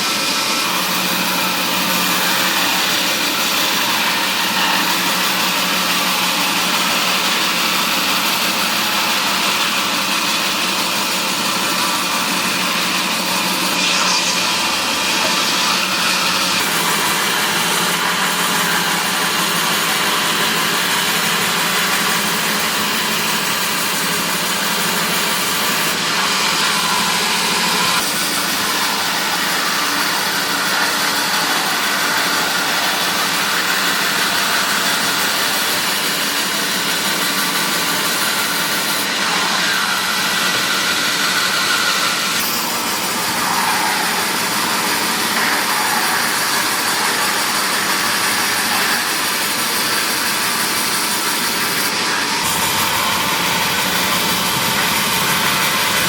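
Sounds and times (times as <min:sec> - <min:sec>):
woodworking machinery humming: 0:00.0 - 0:56.0.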